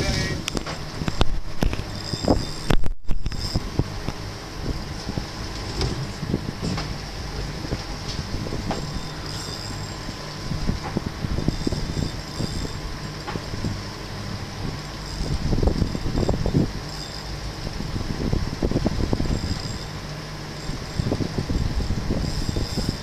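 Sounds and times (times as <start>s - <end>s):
boat engine humming: 0.0s - 23.0s
wind noise: 0.0s - 23.0s.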